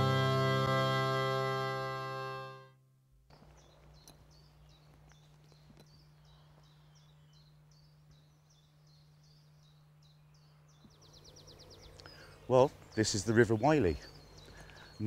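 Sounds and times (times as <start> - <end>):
faint steady low hum: 2.8 - 15.0.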